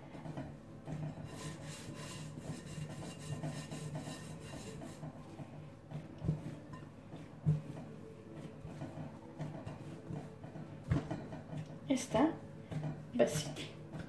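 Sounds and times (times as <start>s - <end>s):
dough scraping against bowl: 0.0s - 14.0s
hand kneading dough in glass bowl: 0.1s - 14.0s.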